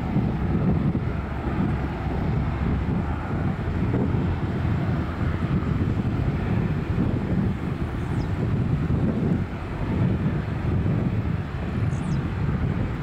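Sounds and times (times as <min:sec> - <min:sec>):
jet engines deep rumble: 0:00.0 - 0:13.0
wind buffeting microphone: 0:00.0 - 0:13.0.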